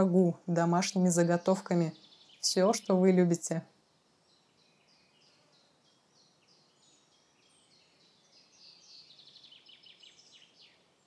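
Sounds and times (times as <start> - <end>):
small bird chirping: 0.6 - 11.0.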